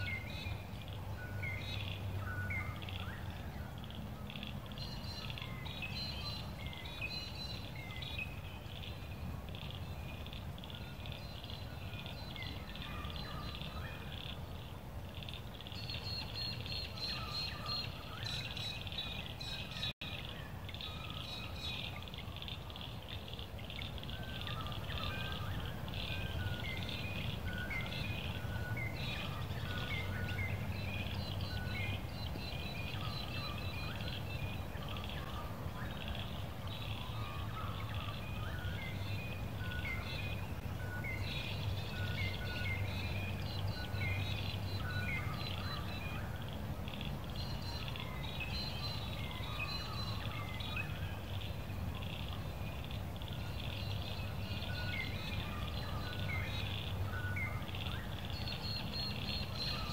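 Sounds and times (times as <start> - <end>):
birds chirping in chorus: 0.0 - 59.9.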